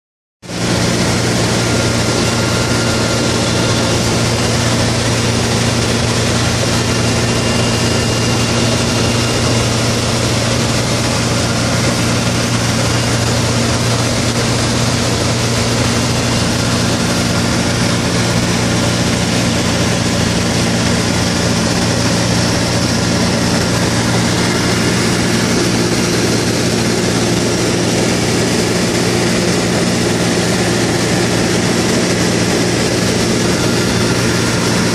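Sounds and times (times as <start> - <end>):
light aircraft engine droning: 0.5 - 34.9
rushing air noise: 0.5 - 34.9.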